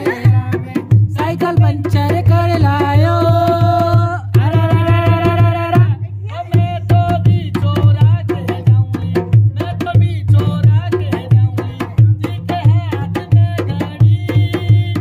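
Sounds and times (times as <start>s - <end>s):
hand drum beat: 0.0s - 15.0s
person singing folk song: 0.0s - 15.0s.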